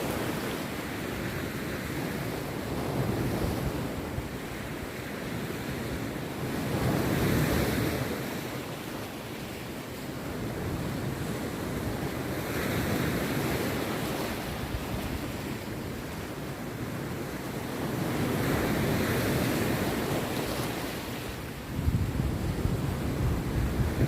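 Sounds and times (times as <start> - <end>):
sea surf breaking on beach: 0.0 - 24.0.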